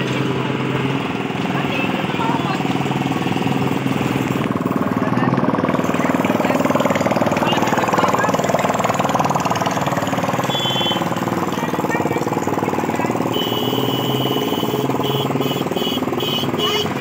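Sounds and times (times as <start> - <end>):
diesel truck engine chugging: 0.0 - 17.0.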